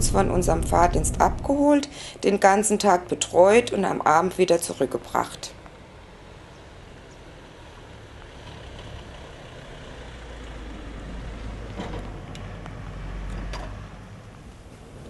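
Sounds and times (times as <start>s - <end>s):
van engine rumble and road noise: 0.0s - 15.0s.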